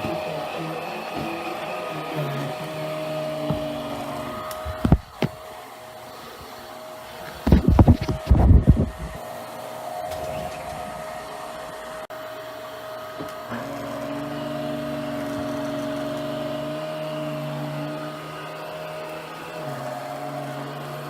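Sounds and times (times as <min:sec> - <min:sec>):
carpet cleaner motor whine: 0:00.0 - 0:21.0.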